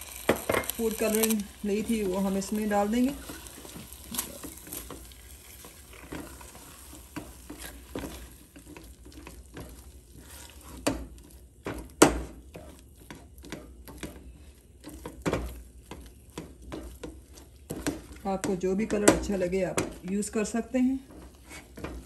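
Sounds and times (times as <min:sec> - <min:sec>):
spatula squelching and scraping pot: 0:00.1 - 0:22.0.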